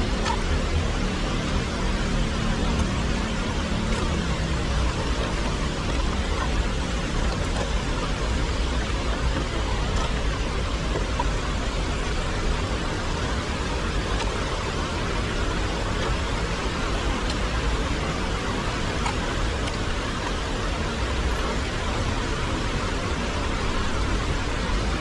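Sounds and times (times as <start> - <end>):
heavy rain on an umbrella: 0.0 - 25.0
stream rushing: 0.0 - 25.0.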